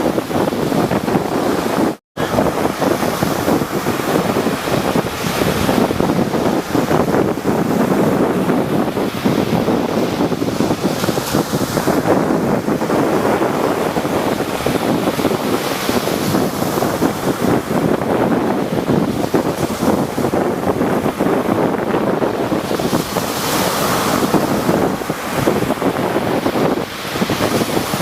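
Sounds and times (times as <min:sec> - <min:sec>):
sea surf breaking: 0:00.0 - 0:28.0
wind buffeting microphone: 0:00.0 - 0:28.0.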